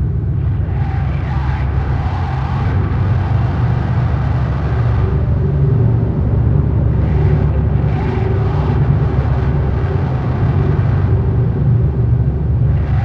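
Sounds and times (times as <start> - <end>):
low rumbling drone: 0.0 - 13.0.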